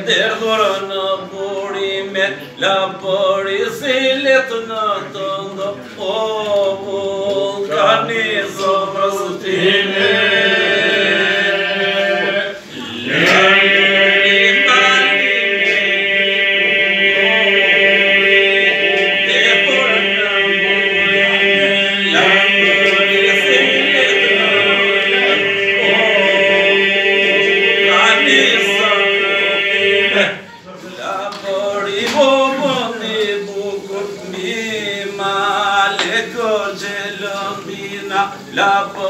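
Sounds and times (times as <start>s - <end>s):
men singing a cappella: 0.0s - 39.0s.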